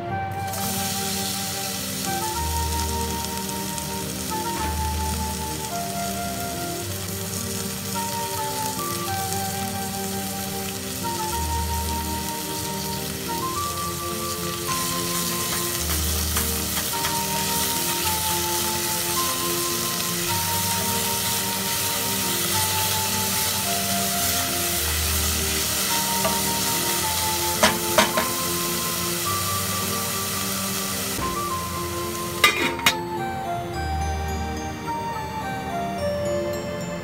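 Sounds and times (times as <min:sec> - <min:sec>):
background music: 0:00.0 - 0:37.0
onions sizzling in oil: 0:00.3 - 0:33.2.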